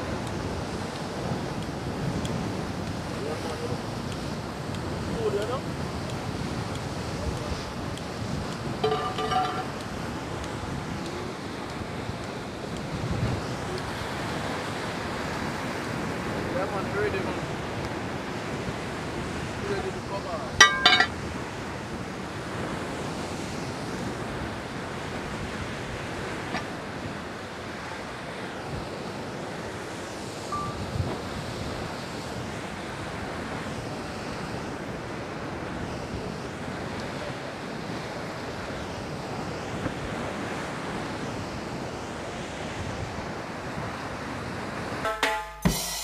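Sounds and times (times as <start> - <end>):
rushing outdoor noise: 0.0 - 45.1.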